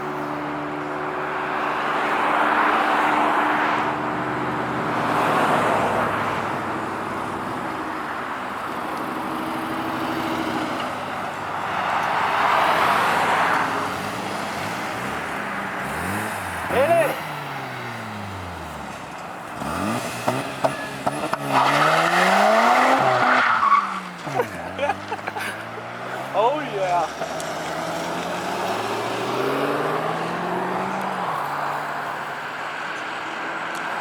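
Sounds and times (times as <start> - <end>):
cars driving past: 0.0 - 34.0.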